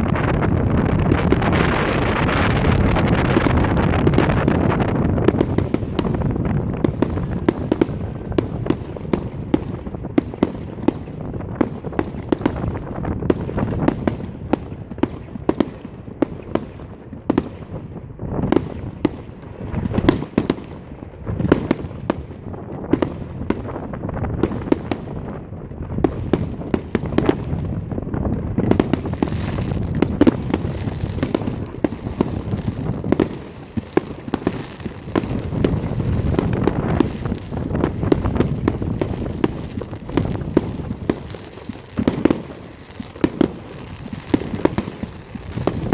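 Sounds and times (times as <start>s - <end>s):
fireworks bangs and crackling: 0.0s - 45.9s.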